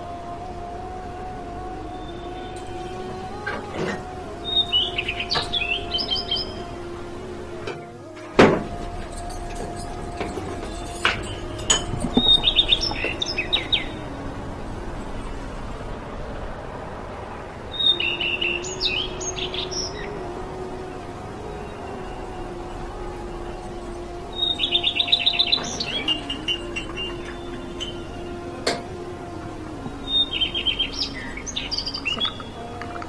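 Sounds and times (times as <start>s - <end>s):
small birds twittering: 0.0s - 7.6s, 8.7s - 33.0s
steady low hum: 0.0s - 33.0s.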